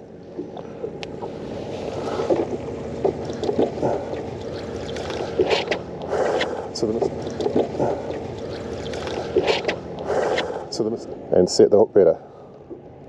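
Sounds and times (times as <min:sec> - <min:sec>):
water lapping against boat hull: 0:00.0 - 0:11.3.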